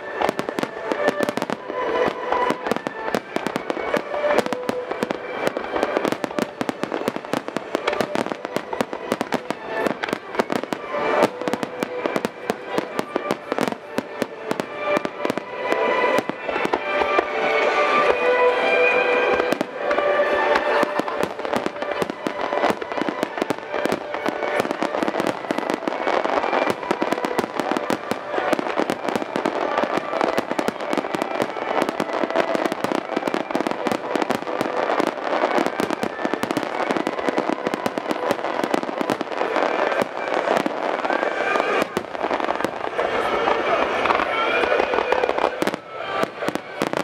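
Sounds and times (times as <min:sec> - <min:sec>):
fireworks cracking and popping: 0:00.0 - 0:47.0.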